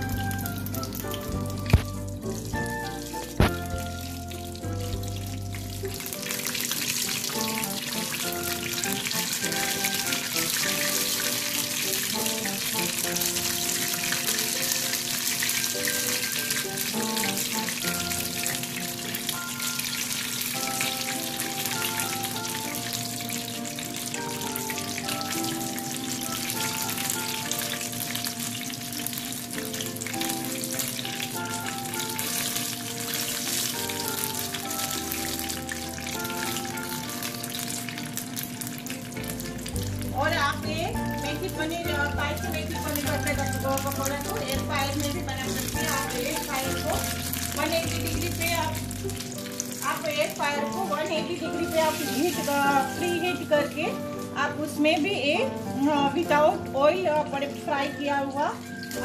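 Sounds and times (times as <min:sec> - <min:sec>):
background music: 0:00.0 - 0:59.0
deep-frying sizzle and crackle: 0:00.0 - 0:59.0.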